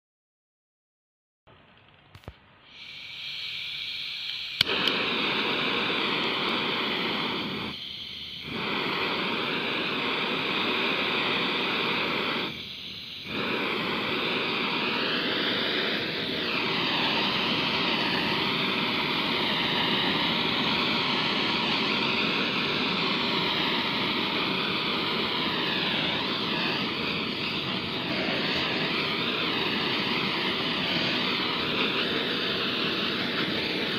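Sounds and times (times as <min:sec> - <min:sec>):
blow torch ignition click: 0:01.8 - 0:33.9
gas hissing: 0:02.2 - 0:33.9
blow torch jet roaring: 0:02.6 - 0:33.9.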